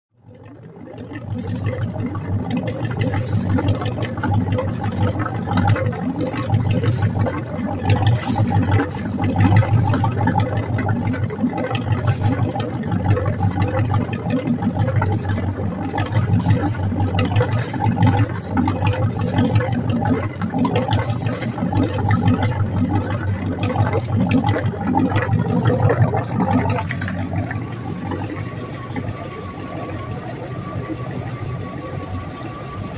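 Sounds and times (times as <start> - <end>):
boat engine running: 0.1 - 32.9
water gushing and splashing: 0.2 - 32.9.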